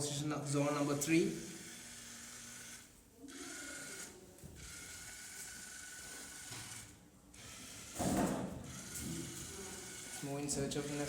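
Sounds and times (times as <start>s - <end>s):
small motors whirring: 0.6s - 11.0s.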